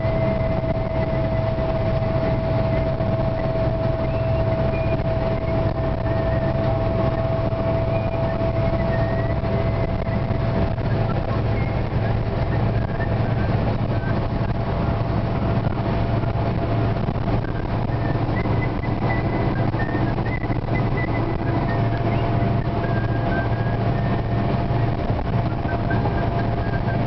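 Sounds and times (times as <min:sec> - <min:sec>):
car engine drone: 0:00.0 - 0:27.0
road noise: 0:00.0 - 0:27.0
thin steady whine: 0:00.0 - 0:27.0.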